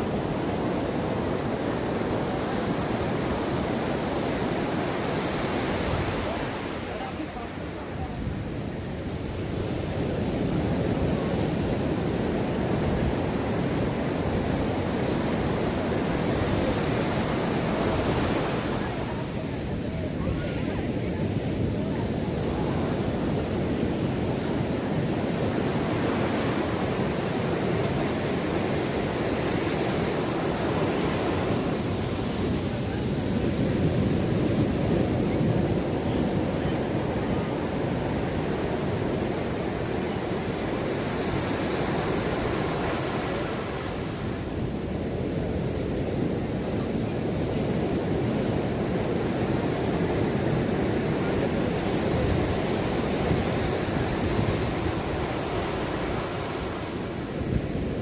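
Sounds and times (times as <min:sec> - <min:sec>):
ocean surf on a beach: 0:00.0 - 0:58.0.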